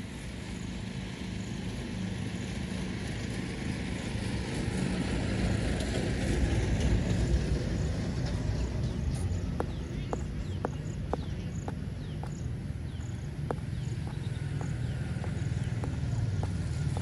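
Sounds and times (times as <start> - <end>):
vehicle engine rumble: 0.1 - 17.0.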